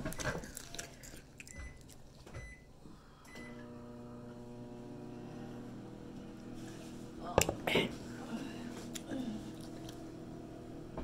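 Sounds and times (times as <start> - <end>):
microwave oven humming: 1.5 - 11.0.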